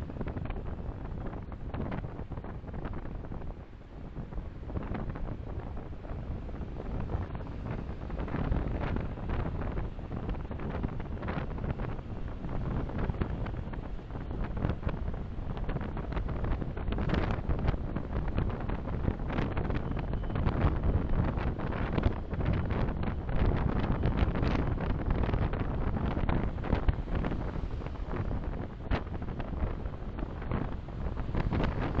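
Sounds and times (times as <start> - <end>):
car road and wind noise: 0.0 - 32.0.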